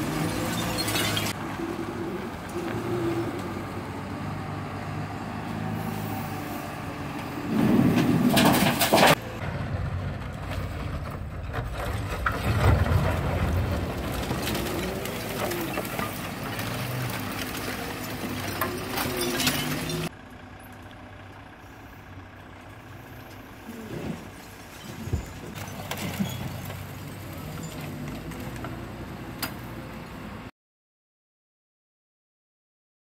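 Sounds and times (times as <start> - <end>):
diesel wheel loader engine: 0.0 - 30.5.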